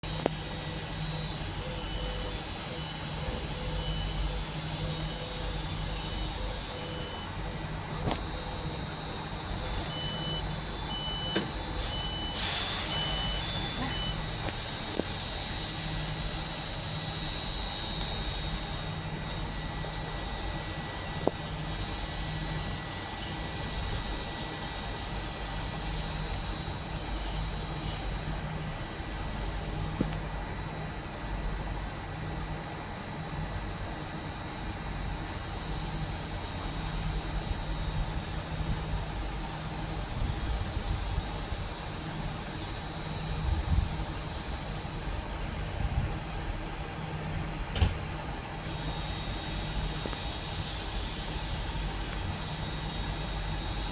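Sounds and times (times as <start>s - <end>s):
train drone with whining tones: 0.0s - 53.9s.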